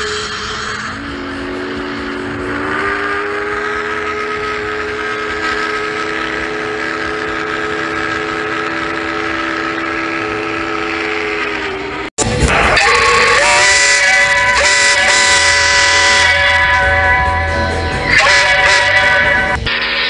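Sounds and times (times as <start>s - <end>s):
steam whistle blast: 0.0s - 20.0s.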